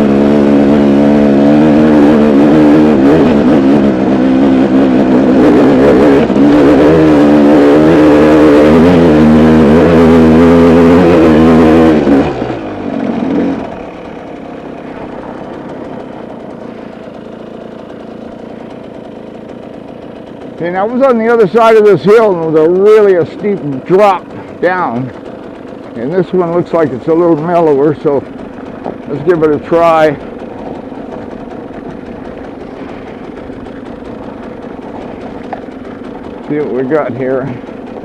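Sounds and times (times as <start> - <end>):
vehicle engine revving: 0.0 - 38.0.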